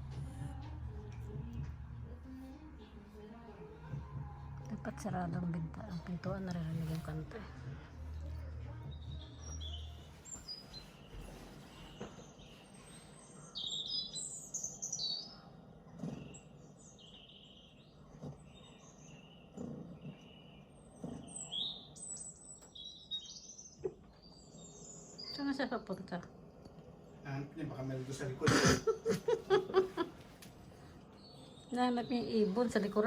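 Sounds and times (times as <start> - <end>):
songbirds chirping and trilling: 4.8 - 33.0.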